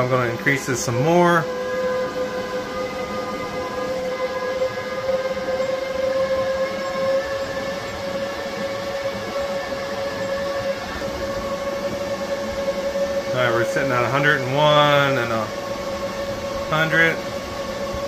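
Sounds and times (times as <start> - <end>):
cooling fans whining drone: 0.0 - 18.0
electrical hum: 0.0 - 18.0.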